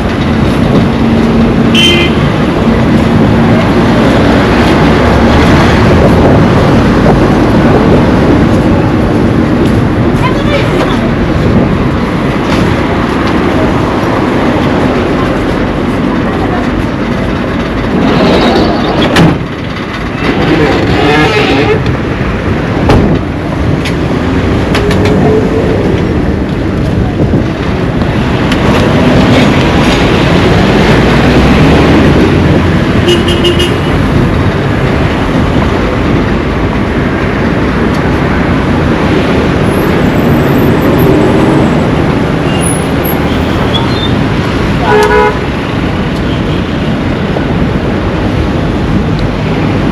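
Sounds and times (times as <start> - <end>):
traffic passing on a street: 0.0 - 49.9.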